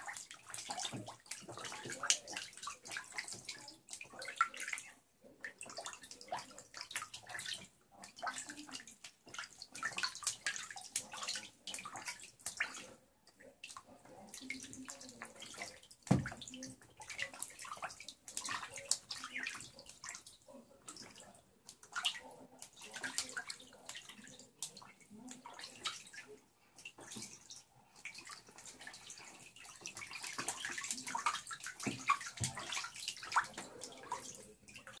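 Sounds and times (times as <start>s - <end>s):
ducklings splashing in water: 0.0s - 35.0s.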